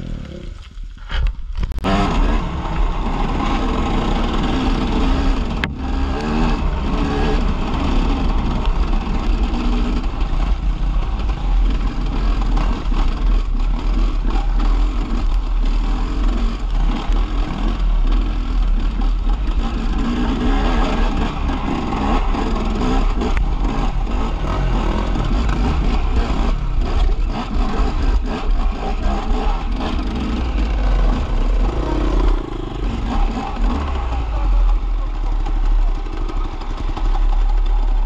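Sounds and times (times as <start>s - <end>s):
dirt bike engine revving: 1.8s - 38.0s.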